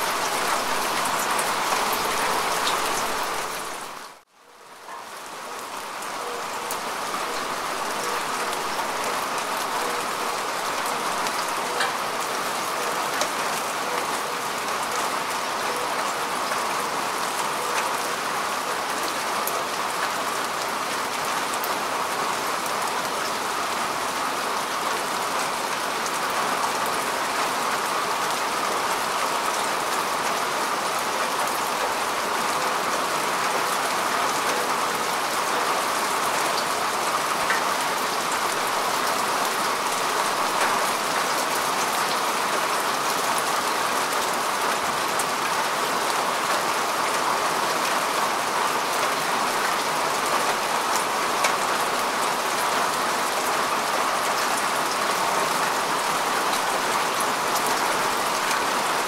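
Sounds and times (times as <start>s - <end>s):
rain falling on grass: 0.0s - 59.0s.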